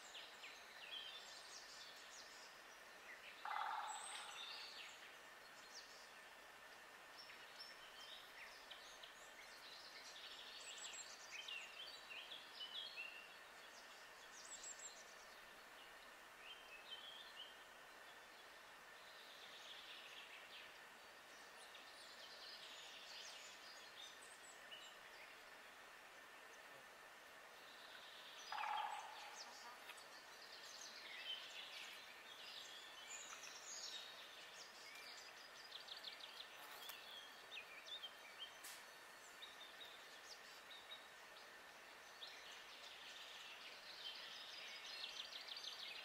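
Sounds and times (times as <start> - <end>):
soft background hiss: 0.0 - 46.0
songbirds singing: 0.0 - 46.0.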